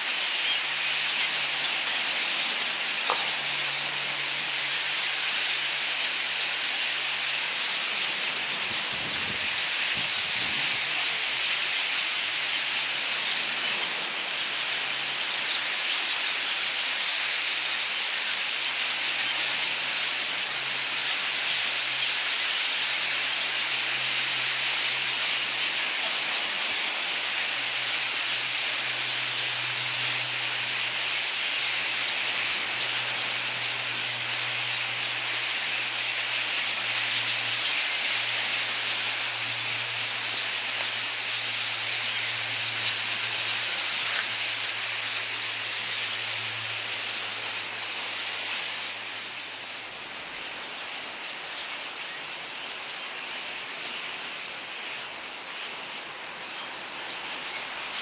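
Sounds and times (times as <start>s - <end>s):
flock of small birds chattering: 0.0s - 58.0s.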